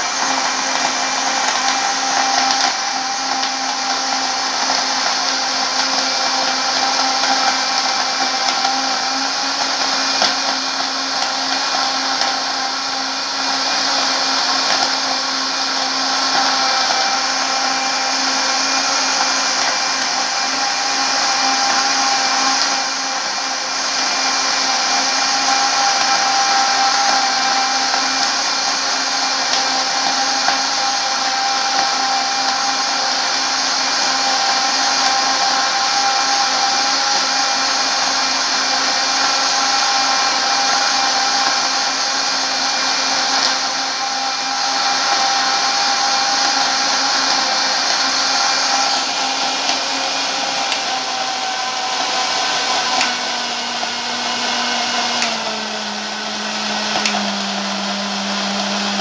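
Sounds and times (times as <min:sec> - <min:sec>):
blender motor whining: 0:00.0 - 0:59.0.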